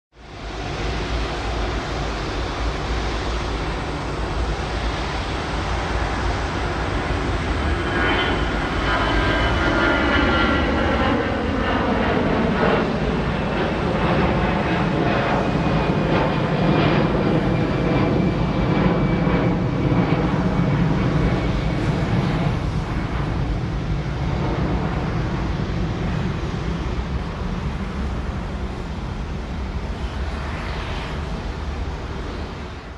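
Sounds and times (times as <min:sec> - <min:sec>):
aircraft engine high whine: 0:00.1 - 0:32.9
aircraft engine rumble: 0:00.1 - 0:32.9.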